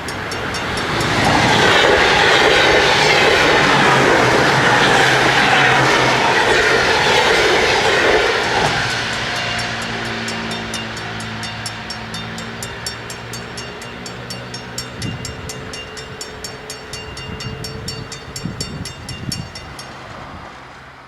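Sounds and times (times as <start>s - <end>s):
level-crossing bells ringing: 0.0s - 20.0s
train rumbling: 0.0s - 21.0s.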